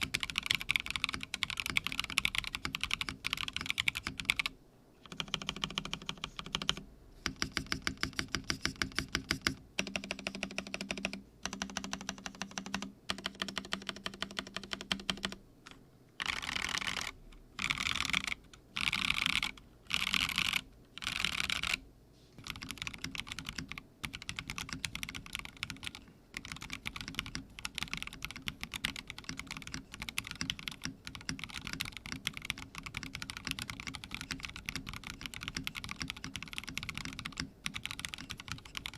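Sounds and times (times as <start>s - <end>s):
typing on mechanical keyboard: 0.0s - 15.4s, 16.2s - 21.8s, 22.4s - 38.9s.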